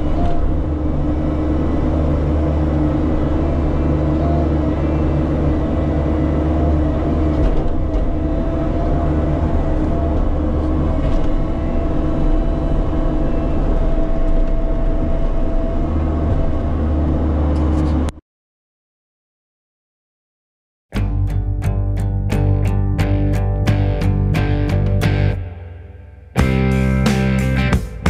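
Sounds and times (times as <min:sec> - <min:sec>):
diesel engine running: 0:00.0 - 0:18.1, 0:21.0 - 0:28.0.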